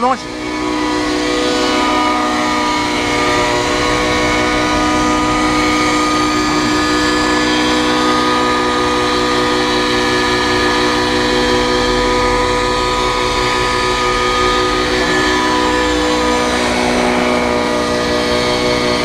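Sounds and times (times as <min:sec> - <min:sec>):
engine revving high whine: 0:00.0 - 0:19.0.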